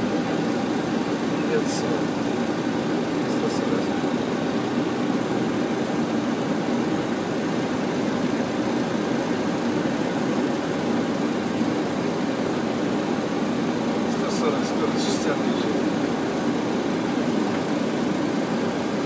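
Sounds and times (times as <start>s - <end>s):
airflow and jet engine noise: 0.0s - 19.0s.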